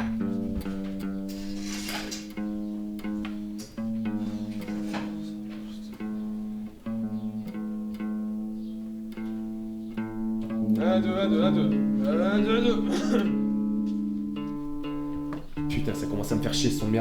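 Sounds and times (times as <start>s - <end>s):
guitar slow plucked notes: 0.0s - 17.0s.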